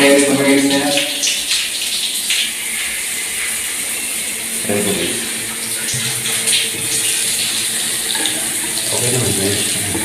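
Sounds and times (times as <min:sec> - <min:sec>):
water running from a tap: 0:00.0 - 0:10.0.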